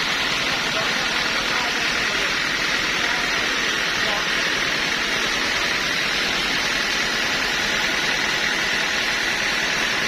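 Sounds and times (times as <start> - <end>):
sawmill machinery hiss: 0.0 - 10.0.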